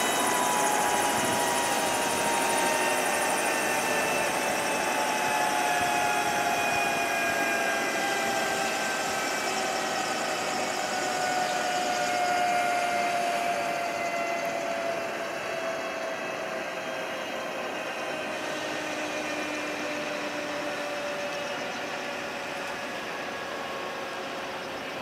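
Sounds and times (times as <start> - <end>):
helicopter turbine whine winding down: 0.0 - 25.0.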